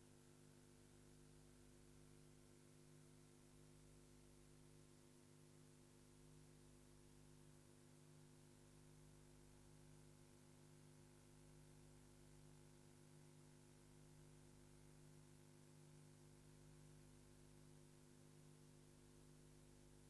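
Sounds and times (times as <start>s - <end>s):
faint electrical hum with hiss: 0.0s - 20.0s.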